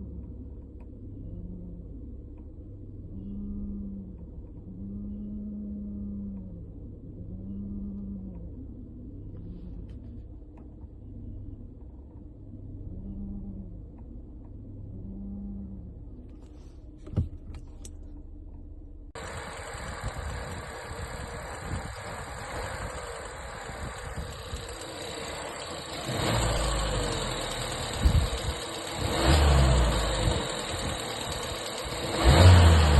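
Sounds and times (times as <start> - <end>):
car engine and road noise: 0.0 - 32.9.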